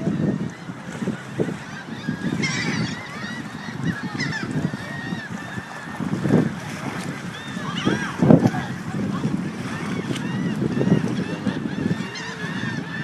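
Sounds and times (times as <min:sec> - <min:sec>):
waterbirds calling: 0:00.0 - 0:13.0
wind rumble on microphone: 0:00.0 - 0:13.0.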